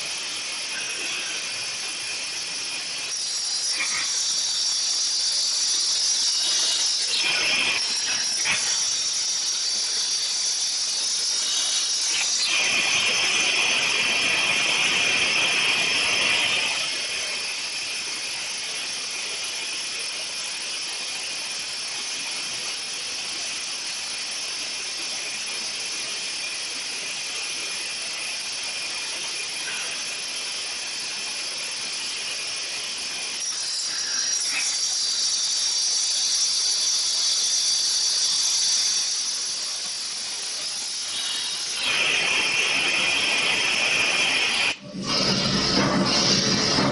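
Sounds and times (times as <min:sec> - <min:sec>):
machinery hiss and whine: 0:00.0 - 0:46.9.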